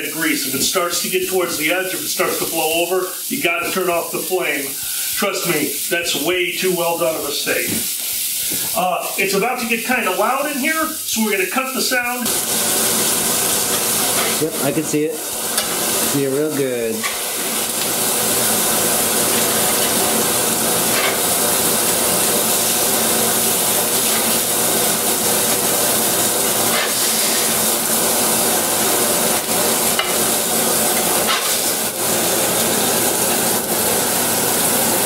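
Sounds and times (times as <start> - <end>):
burger patties sizzling: 0.0 - 35.0.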